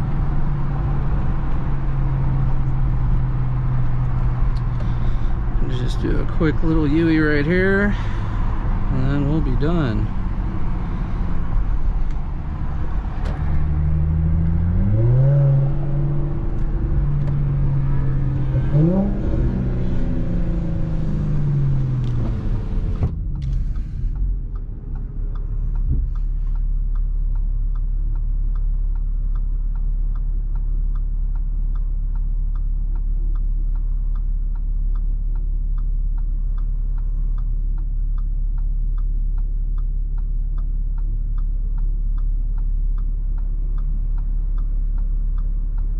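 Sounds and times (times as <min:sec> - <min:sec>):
car engine revving and idling: 0:00.0 - 0:45.9.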